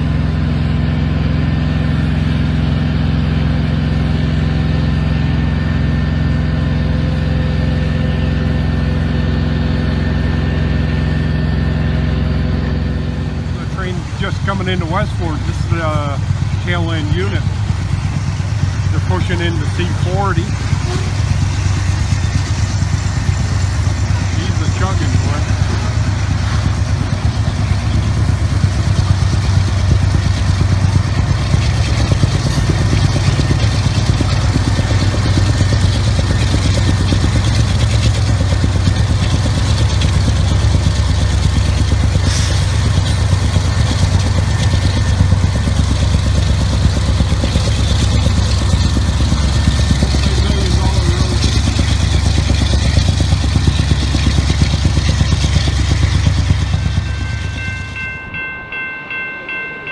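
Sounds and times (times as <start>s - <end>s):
locomotive engine rumbling: 0.0s - 59.9s.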